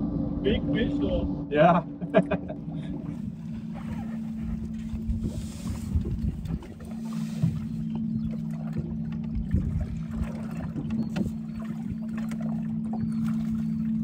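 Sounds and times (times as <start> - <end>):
boat motor humming: 0.0 - 14.0
water rumble: 0.0 - 14.0
wind: 0.0 - 14.0.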